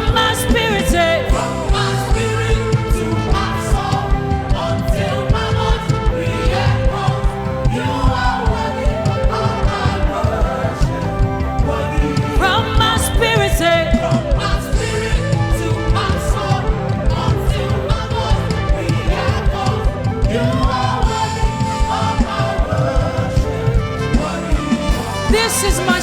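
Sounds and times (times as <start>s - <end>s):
gospel band playing: 0.0s - 26.0s
steady drum beat: 0.0s - 26.0s
voices singing: 0.0s - 26.0s.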